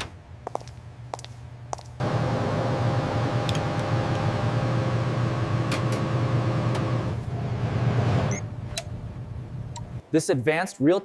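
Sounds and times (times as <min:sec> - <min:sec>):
machinery humming and whirring: 0:00.0 - 0:10.1.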